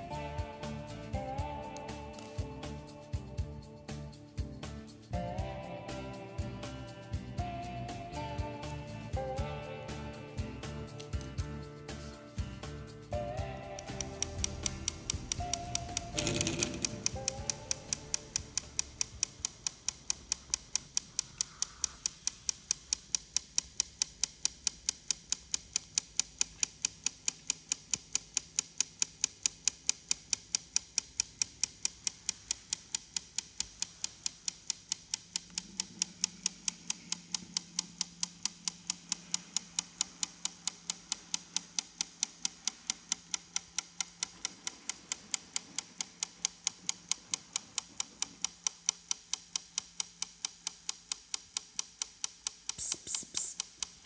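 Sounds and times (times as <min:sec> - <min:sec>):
sharp ticking: 0:00.0 - 0:54.0.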